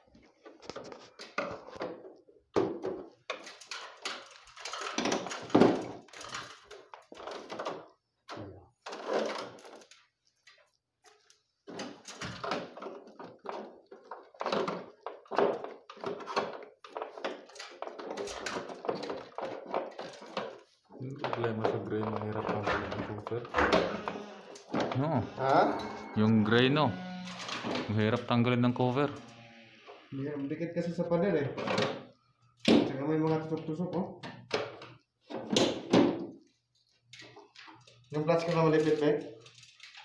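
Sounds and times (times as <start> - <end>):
plastic knocks clicks and scraping: 0.3 - 25.0, 31.6 - 40.0.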